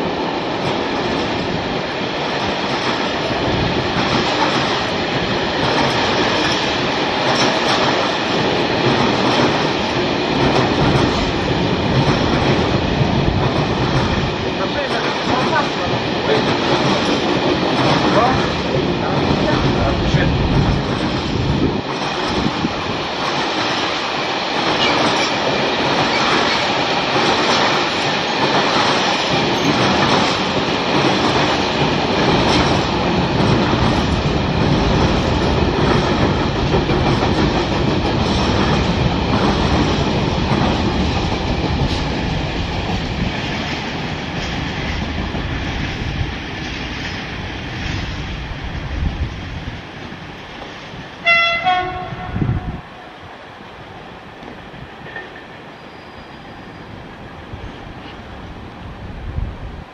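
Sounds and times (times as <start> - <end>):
freight train rumbling and rattling: 0.0 - 59.9.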